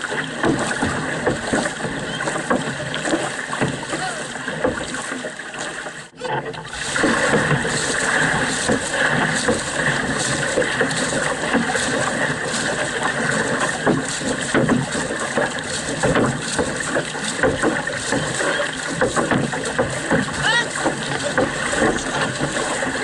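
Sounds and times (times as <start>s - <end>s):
paddle splashes: 0.0s - 23.0s
water rushing along canoe hull: 0.0s - 23.0s.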